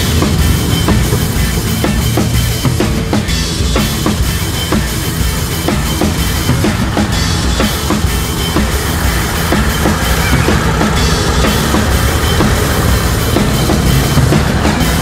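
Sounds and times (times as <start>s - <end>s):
kick and snare drum beat: 0.0s - 15.0s
rock music: 0.0s - 15.0s.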